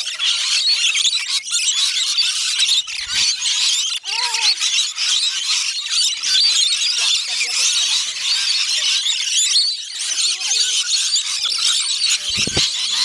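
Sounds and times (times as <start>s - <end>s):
lorikeets screeching and chattering: 0.0s - 13.0s.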